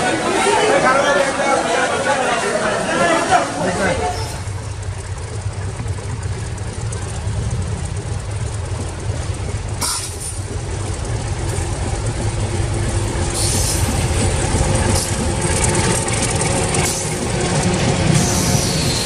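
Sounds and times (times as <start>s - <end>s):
diesel locomotive engine rumbling: 0.0s - 19.0s
train wheels rushing on rails: 0.0s - 19.0s.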